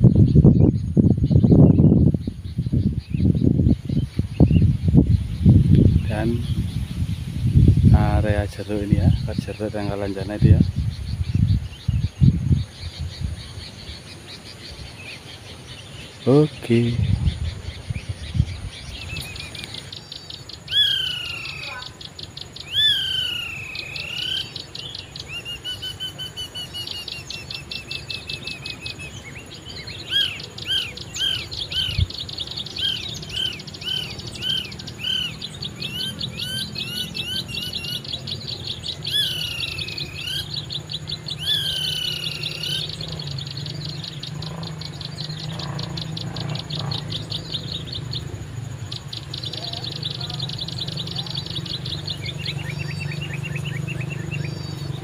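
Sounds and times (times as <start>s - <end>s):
small birds calling: 0.0s - 55.0s.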